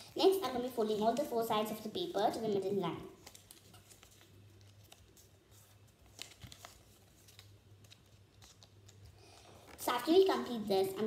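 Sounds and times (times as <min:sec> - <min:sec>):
paper being folded: 0:00.1 - 0:11.0
soft paper crinkles: 0:00.1 - 0:11.0.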